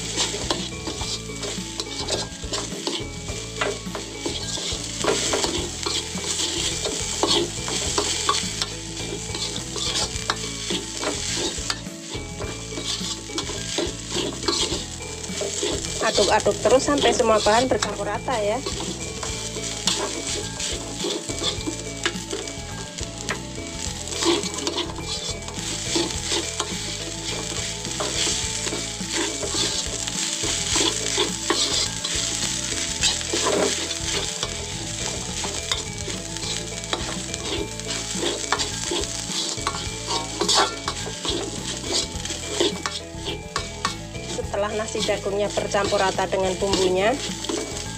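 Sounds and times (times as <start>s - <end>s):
metal spatula scraping a wok: 0.0s - 47.9s
rice sizzling in oil: 0.0s - 47.9s.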